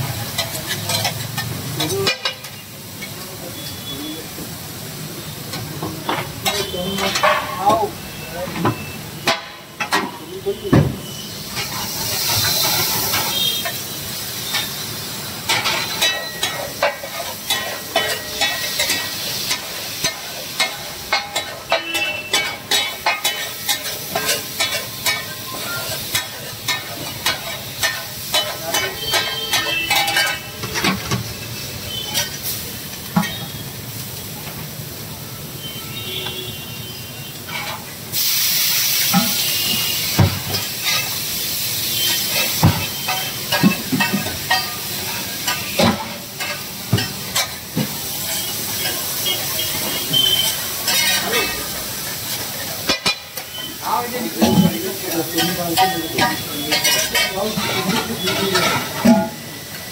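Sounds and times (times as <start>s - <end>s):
metal spatula scraping on griddle: 0.0s - 3.9s, 11.0s - 33.6s, 37.4s - 59.9s
food sizzling in hot oil: 0.0s - 59.9s.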